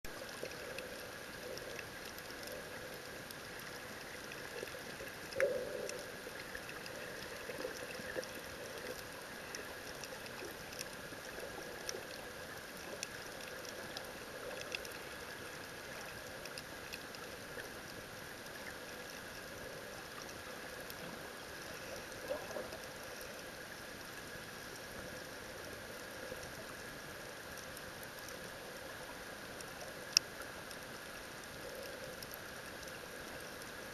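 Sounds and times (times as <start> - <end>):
faint ticks and crackles: 0.0 - 33.9.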